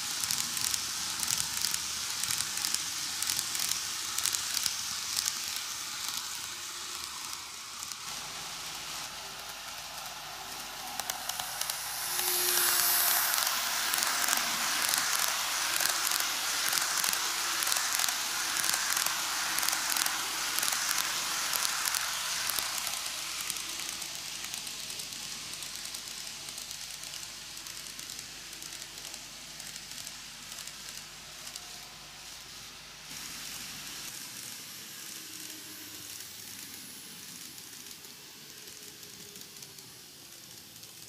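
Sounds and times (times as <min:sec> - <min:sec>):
model train wheels rumbling and clicking: 0:00.0 - 0:41.0.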